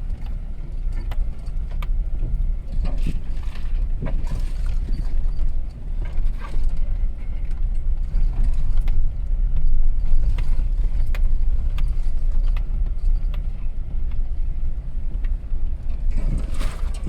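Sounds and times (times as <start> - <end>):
car rumbling on rough track: 0.0 - 17.0.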